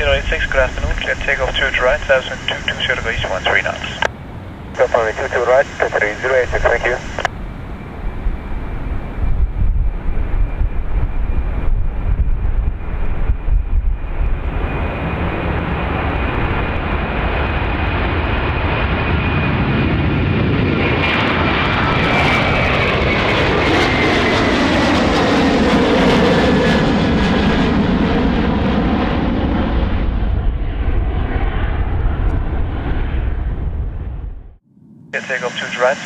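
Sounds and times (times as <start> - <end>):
jet engines roaring with whine: 0.0 - 36.0.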